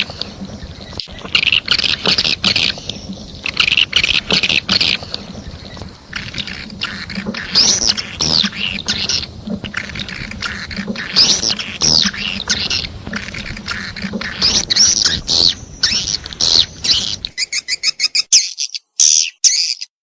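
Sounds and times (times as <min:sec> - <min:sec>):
low pulsing hum: 0:00.0 - 0:17.3
swiftlets twittering: 0:00.0 - 0:19.3.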